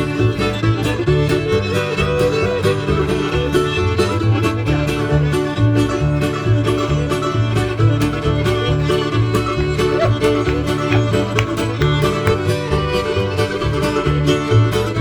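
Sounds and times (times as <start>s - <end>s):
bass notes: 0.0s - 15.0s
fiddle: 0.0s - 15.0s
mandolin: 0.0s - 15.0s
strummed guitar: 0.0s - 15.0s.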